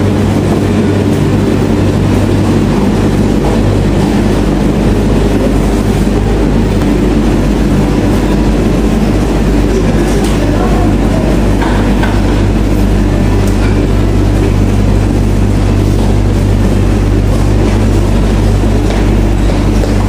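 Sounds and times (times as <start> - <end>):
tumble dryers running: 0.0 - 20.0.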